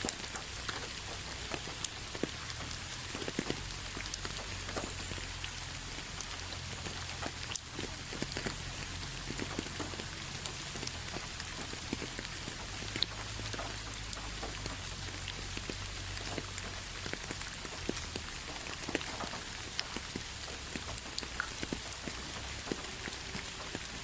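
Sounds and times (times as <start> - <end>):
rain hissing: 0.0 - 24.0
raindrops ticking on a surface: 0.0 - 24.0.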